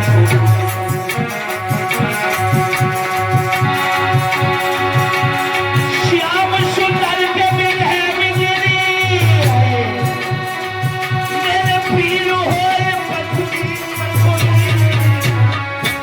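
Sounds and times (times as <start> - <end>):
steady low drum beat: 0.0 - 16.0.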